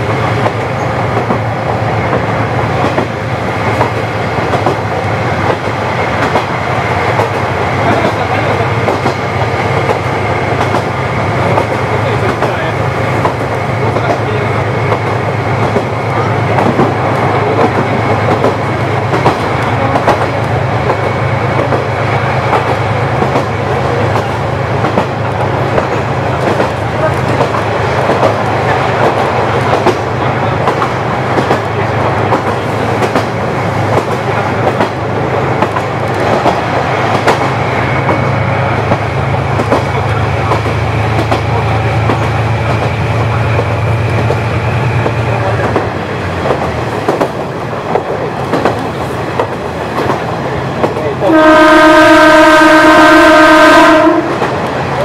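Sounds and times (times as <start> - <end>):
wheels clacking over rail joints: 0.0 - 51.4.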